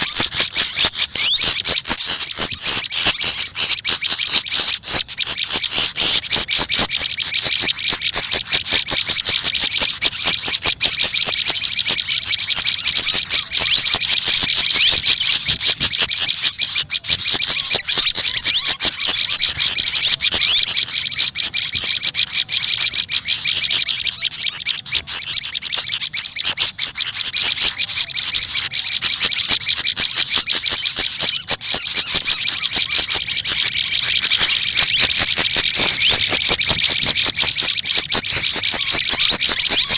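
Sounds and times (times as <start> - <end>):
songbirds chattering and chirping: 0.0 - 39.9.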